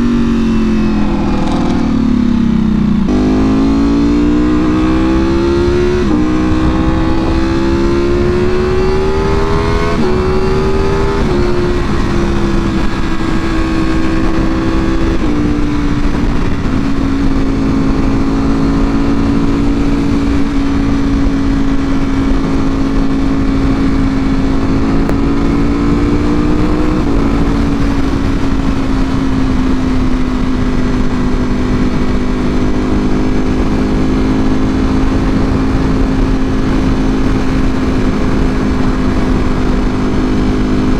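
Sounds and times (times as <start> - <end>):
motorcycle engine revving and shifting: 0.0 - 40.9
wind noise: 0.0 - 40.9.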